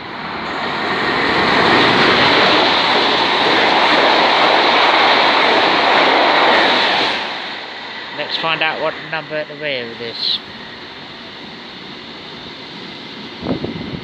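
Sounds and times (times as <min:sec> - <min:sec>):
express train passing at speed: 0:00.0 - 0:14.0.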